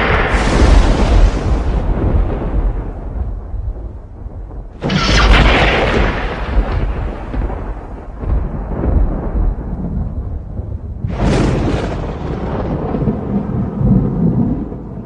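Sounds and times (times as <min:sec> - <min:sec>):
lightning crack: 0:00.0 - 0:15.0
rolling thunder rumble: 0:00.0 - 0:15.0.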